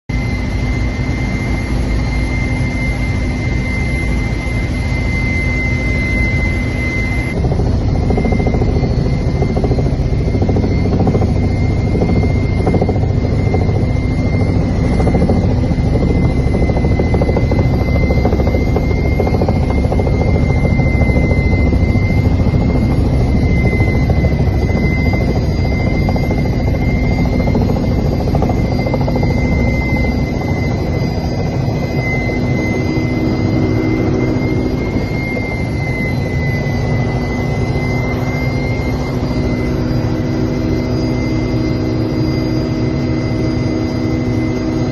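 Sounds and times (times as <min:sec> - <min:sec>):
aircraft engine drone: 0:00.1 - 0:44.9
high whine: 0:00.1 - 0:44.9.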